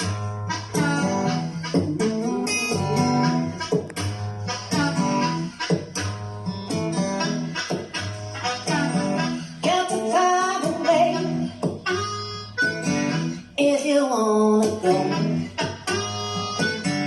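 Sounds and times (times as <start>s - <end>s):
guitar-backed song over speaker: 0.0s - 17.0s.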